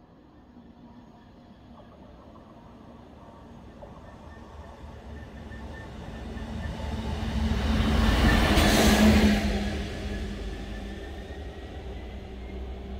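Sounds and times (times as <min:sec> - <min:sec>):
diesel locomotive engine drone: 0:00.0 - 0:12.9
train wheels rushing on rails: 0:01.7 - 0:12.9.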